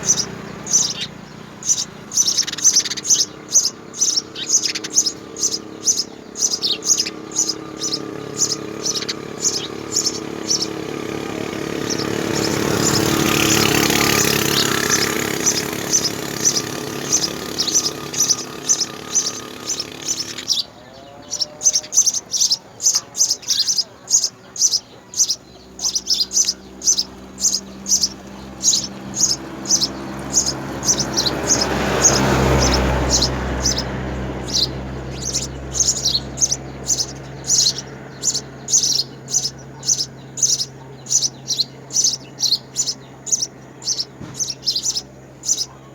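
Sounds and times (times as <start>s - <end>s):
sparrows chirping: 0.0s - 45.9s
vehicle passing: 0.0s - 45.9s.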